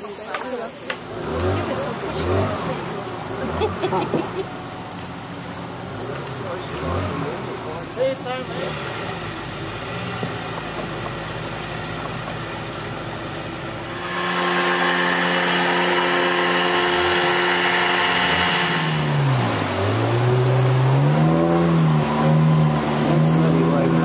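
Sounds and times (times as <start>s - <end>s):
outboard motor running: 0.2s - 24.0s.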